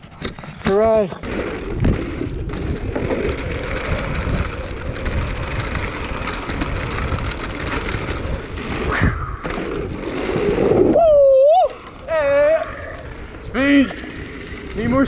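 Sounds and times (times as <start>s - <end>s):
bike rattling: 0.0s - 15.0s
bike tyres crackling on dirt: 0.0s - 15.0s
low rumble: 1.2s - 15.0s.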